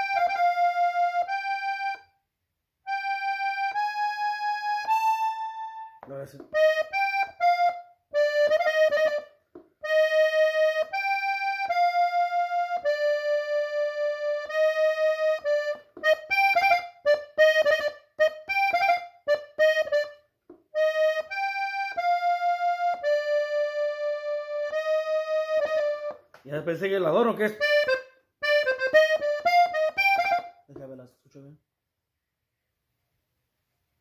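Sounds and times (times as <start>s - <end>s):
button accordion melody: 0.0s - 31.0s.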